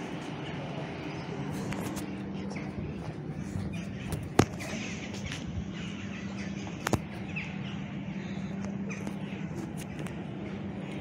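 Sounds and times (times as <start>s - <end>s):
birds chirping: 0.0s - 11.0s
steady low hum: 0.0s - 11.0s.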